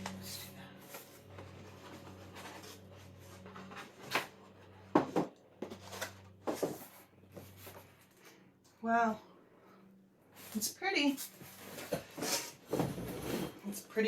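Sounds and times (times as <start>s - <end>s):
cardboard rustling and scraping: 0.0s - 8.2s, 10.4s - 13.7s
low steady hum: 0.0s - 14.0s.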